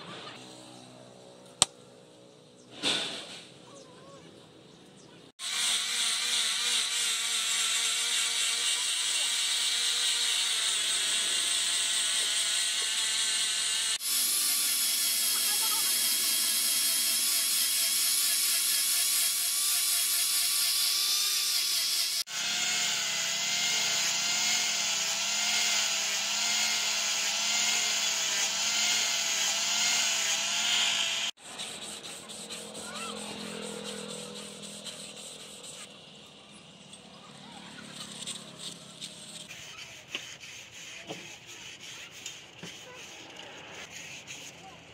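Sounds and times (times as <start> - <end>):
sandpaper rasping by hand: 5.4 - 36.0, 37.6 - 44.9
angle grinder sanding wood: 5.4 - 36.5, 37.6 - 44.9.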